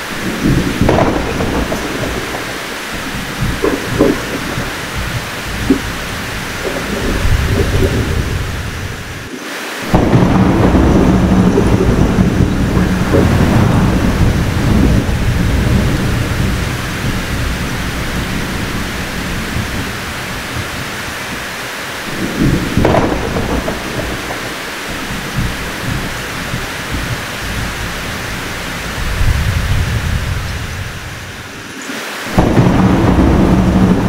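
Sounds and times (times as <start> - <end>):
sharp thunderclap: 0.0 - 34.0
steady rain: 0.0 - 34.0
thunder rumbling: 0.0 - 34.0.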